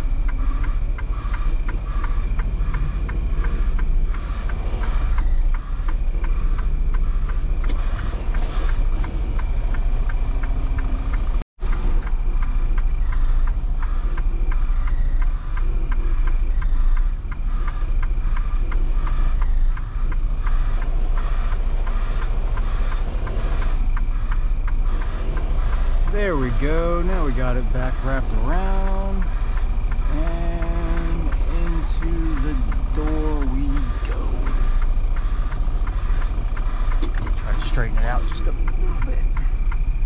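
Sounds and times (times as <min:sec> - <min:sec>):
diesel truck engine rumble: 0:00.0 - 0:40.0.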